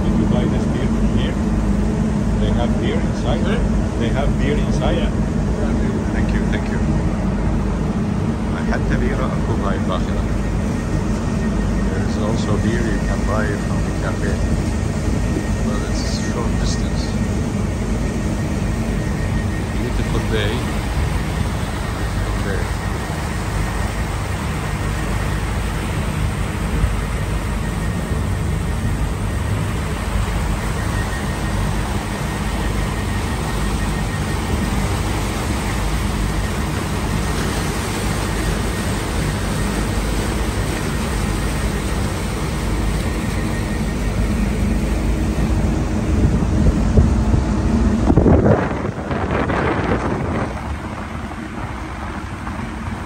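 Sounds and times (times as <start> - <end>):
boat engine drone: 0.0 - 53.0
rushing water: 0.0 - 53.0
wind: 0.0 - 53.0.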